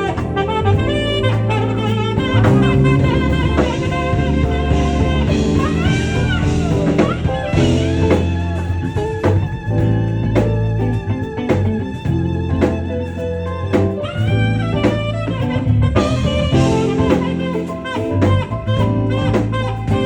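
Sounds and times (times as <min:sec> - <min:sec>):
bass: 0:00.0 - 0:20.0
drum kit: 0:00.0 - 0:20.0
saxophone melody: 0:00.0 - 0:20.0.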